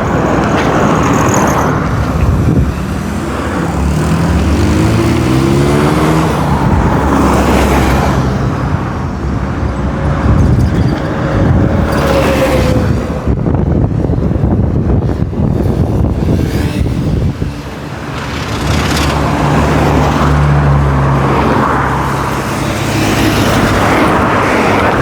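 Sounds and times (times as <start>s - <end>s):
cars swishing past: 0.0s - 10.4s, 15.2s - 25.0s
traffic tyre and engine noise: 0.0s - 25.0s.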